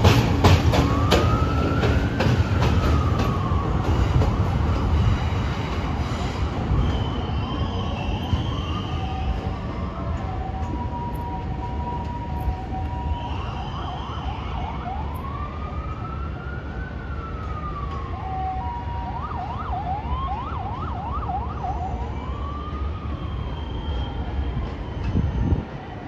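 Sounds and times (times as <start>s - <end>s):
emergency siren: 0.0s - 26.0s.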